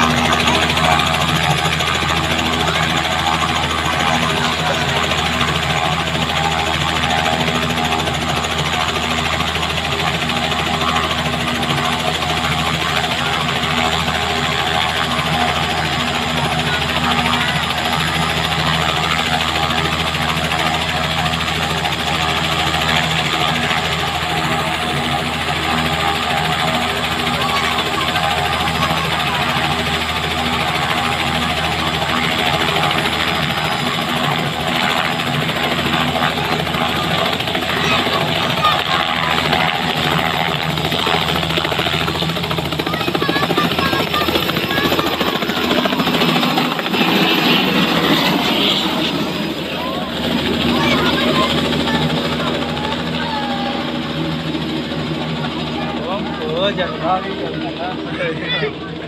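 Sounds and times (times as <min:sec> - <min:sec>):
helicopter engine running: 0:00.0 - 0:59.0
helicopter rotor beat: 0:00.0 - 0:59.0.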